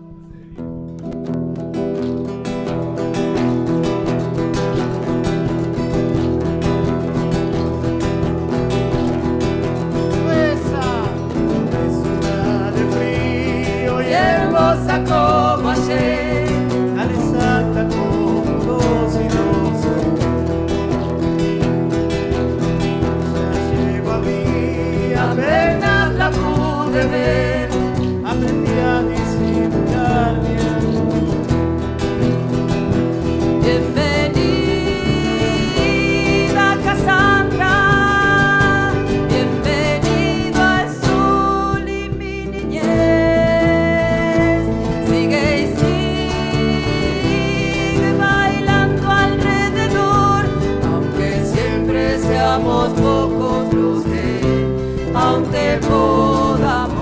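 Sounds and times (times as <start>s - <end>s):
strummed acoustic guitars: 0.0s - 57.0s.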